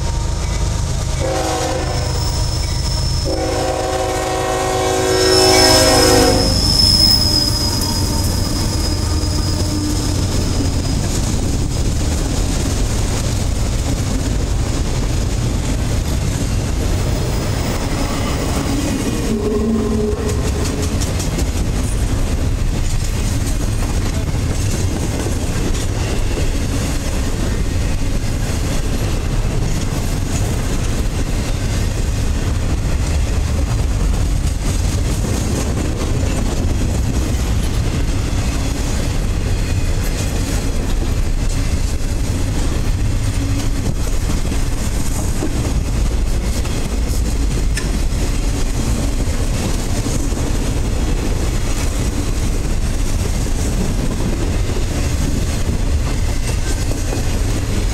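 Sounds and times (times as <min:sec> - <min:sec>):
freight train passing: 0:00.0 - 0:57.9
steel wheels rattling on rails: 0:00.0 - 0:57.9.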